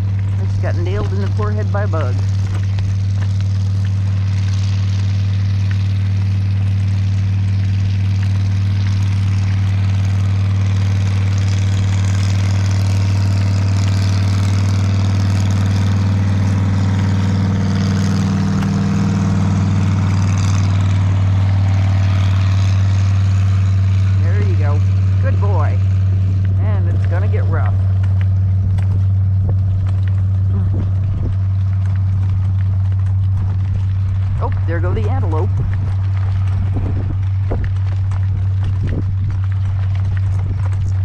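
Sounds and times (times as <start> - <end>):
low mechanical drone: 0.0 - 41.0.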